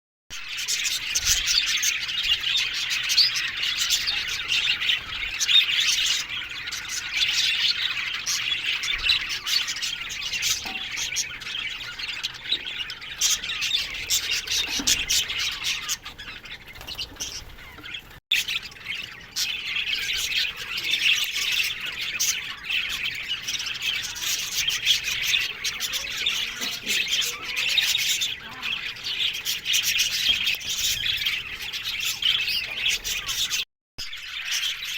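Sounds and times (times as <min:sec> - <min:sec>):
budgerigars chattering: 0:00.4 - 0:34.9.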